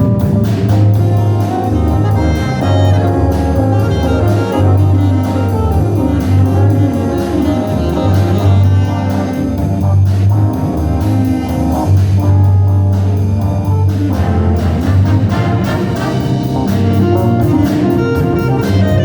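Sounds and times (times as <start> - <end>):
jazz band playing: 0.0 - 19.0.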